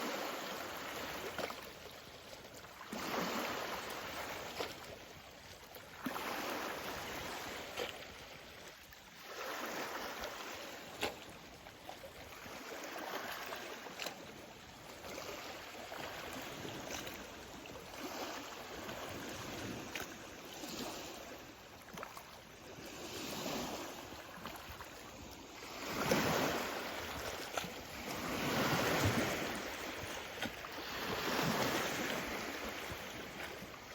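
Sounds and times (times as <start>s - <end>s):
waves lapping against shore: 0.0s - 33.9s.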